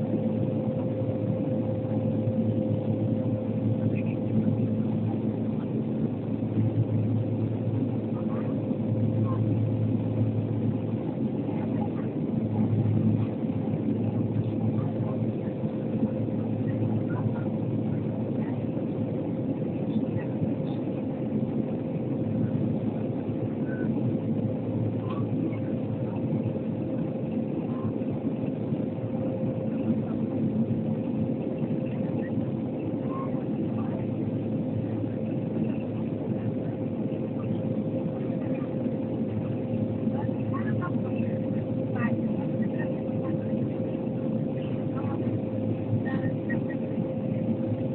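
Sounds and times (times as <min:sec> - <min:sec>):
propeller and engine drone: 0:00.0 - 0:47.9.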